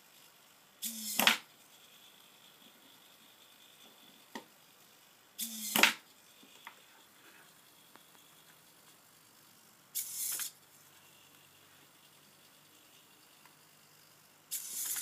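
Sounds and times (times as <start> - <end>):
servo whirring: 0.8 - 3.8, 5.4 - 15.0.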